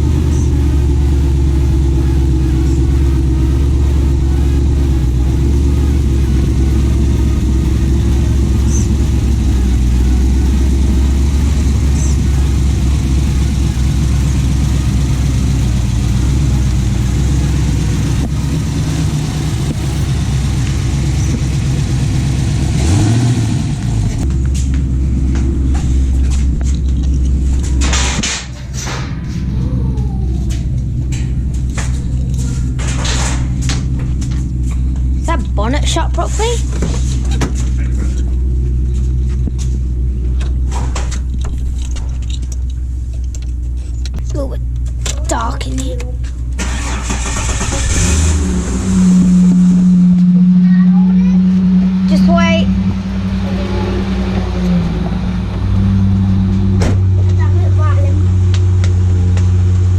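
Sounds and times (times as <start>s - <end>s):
car engine rumbling: 0.0s - 59.9s.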